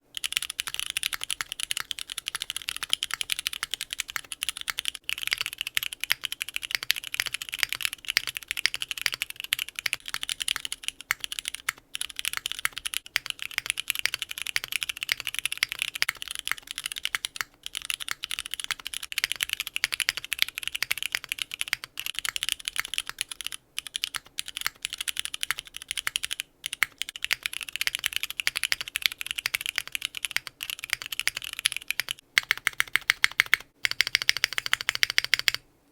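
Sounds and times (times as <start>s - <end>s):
mechanical keyboard typing: 0.0s - 35.6s.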